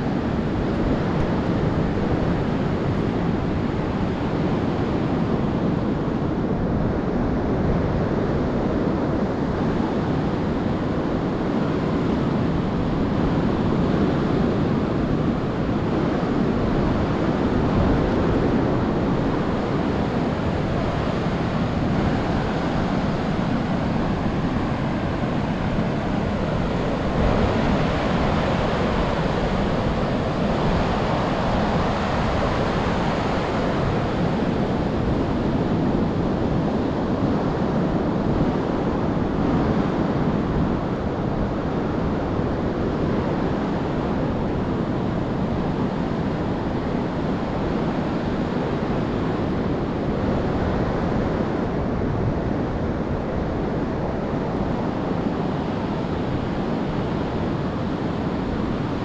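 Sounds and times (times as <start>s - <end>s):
ocean surf breaking on beach: 0.0s - 59.0s
wind on microphone: 0.0s - 59.0s.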